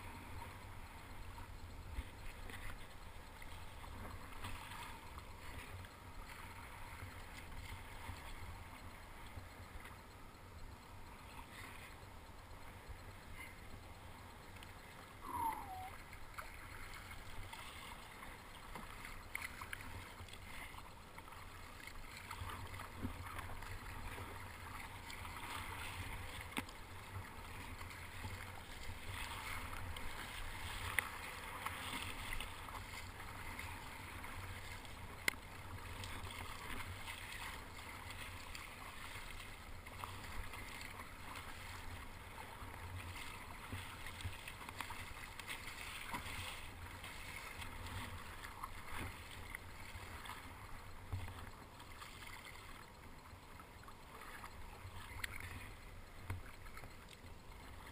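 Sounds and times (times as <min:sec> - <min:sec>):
paddle blades dipping: 0:00.0 - 0:57.9
sea water splashing against kayak: 0:00.0 - 0:57.9.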